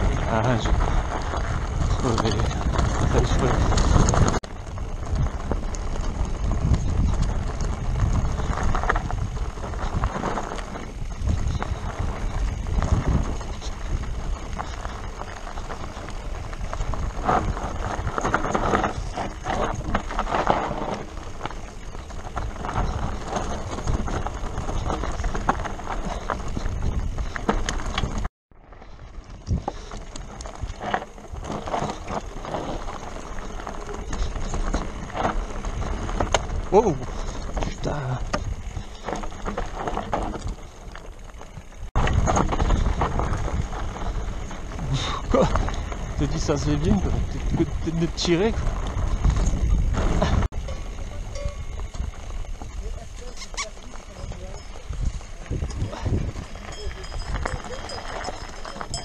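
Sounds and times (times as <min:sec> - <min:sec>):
bike rattling and knocking: 0:00.0 - 0:59.0
tyres crunching over stones: 0:00.0 - 0:59.0
wind rumble on microphone: 0:00.0 - 0:59.0.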